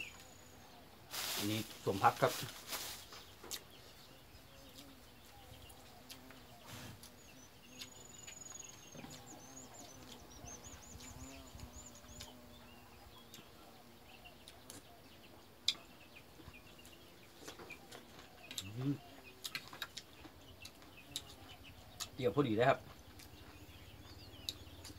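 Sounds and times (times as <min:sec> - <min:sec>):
bird chirping trills: 0:02.7 - 0:24.9.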